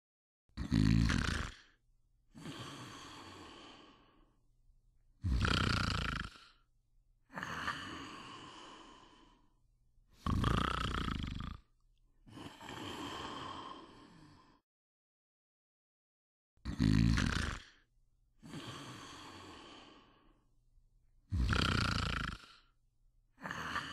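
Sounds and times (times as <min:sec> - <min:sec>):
person snoring: 0:00.6 - 0:04.4, 0:05.2 - 0:14.6, 0:16.6 - 0:20.5, 0:21.3 - 0:23.9.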